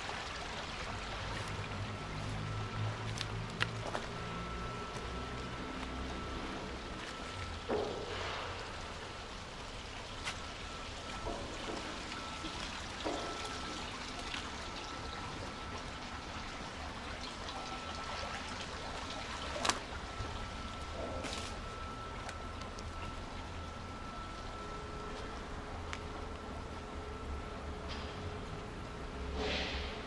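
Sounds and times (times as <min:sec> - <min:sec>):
shallow water trickling in canal: 0:00.0 - 0:30.0.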